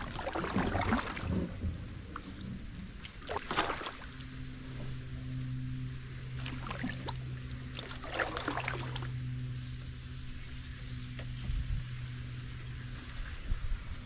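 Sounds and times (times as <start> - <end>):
paddle splashing and scraping: 0.0 - 11.7
low hum: 0.0 - 14.0.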